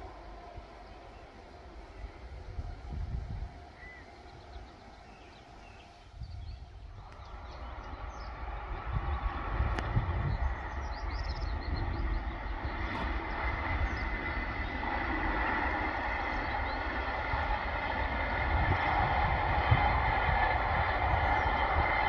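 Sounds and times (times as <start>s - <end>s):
passenger train running past: 0.0s - 22.0s
wind buffeting microphone: 0.0s - 22.0s.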